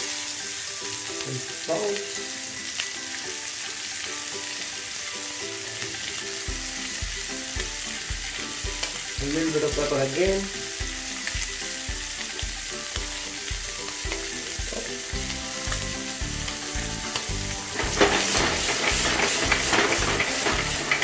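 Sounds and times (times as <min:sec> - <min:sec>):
steak sizzling in a pan: 0:00.0 - 0:21.0.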